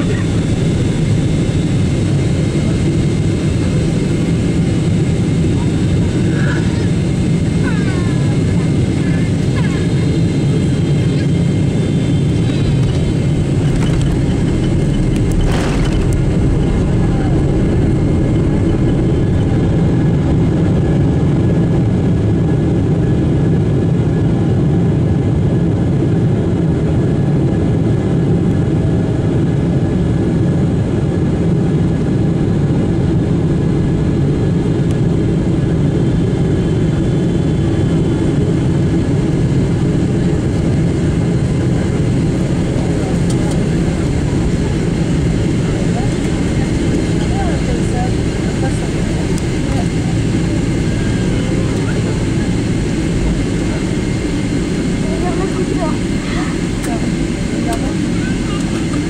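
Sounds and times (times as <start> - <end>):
faint steady whines: 0.0 - 24.3, 31.5 - 59.0
airflow and jet engine rumble: 0.0 - 59.0.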